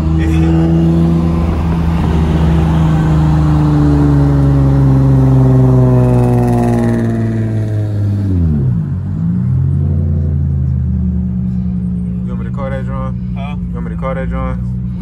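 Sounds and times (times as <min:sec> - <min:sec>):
sports car engine and exhaust: 0:00.0 - 0:15.0.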